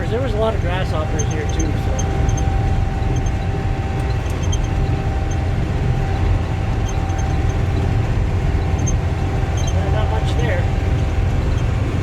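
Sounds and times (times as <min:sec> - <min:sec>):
swather engine rumble: 0:00.0 - 0:12.0
thin steady whine: 0:00.0 - 0:12.0.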